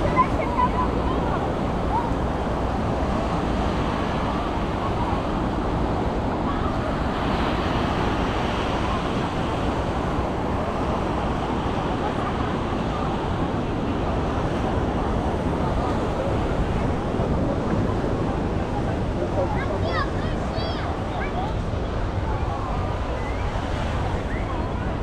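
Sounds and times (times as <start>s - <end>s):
ocean surf on sand: 0.0s - 25.0s
wind rumbling on microphone: 0.0s - 25.0s.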